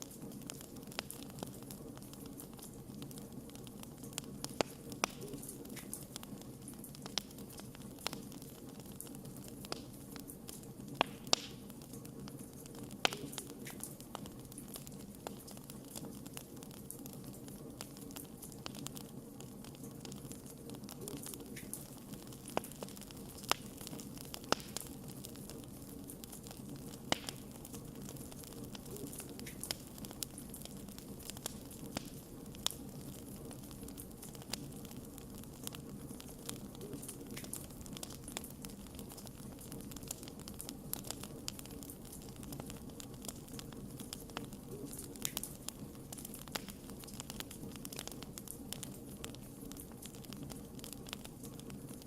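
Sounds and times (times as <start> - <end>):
burning logs crackling and popping: 0.0 - 52.0
fire hissing: 0.0 - 52.0.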